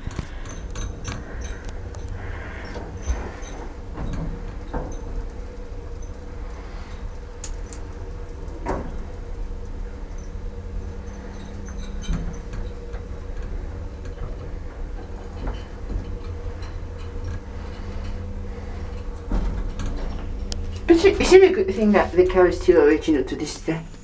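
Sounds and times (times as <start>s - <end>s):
lift rumble and hum: 0.0s - 24.0s.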